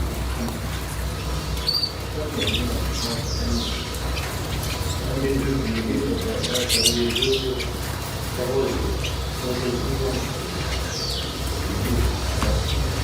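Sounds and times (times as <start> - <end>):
pet birds chirping: 0.0 - 13.0.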